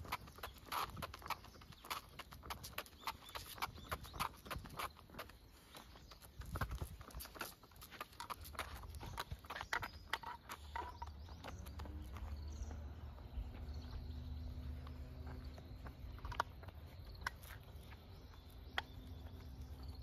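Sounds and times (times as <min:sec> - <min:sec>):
dog boots tapping on asphalt: 0:00.0 - 0:20.0.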